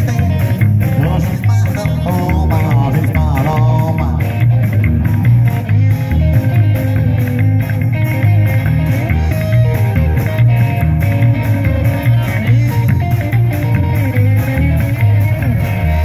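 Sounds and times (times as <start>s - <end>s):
rockabilly band playing: 0.0s - 16.0s
upright double bass: 0.0s - 16.0s.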